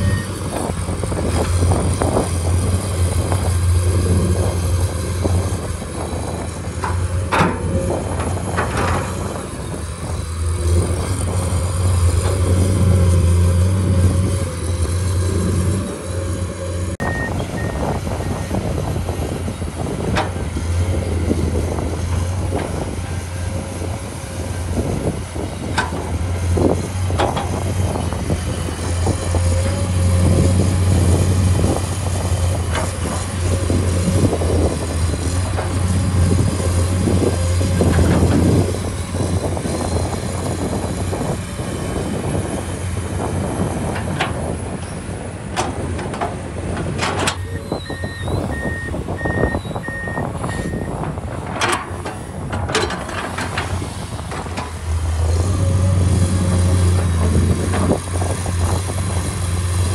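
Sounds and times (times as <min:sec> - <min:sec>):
excavator diesel engine droning: 0:00.0 - 0:59.9.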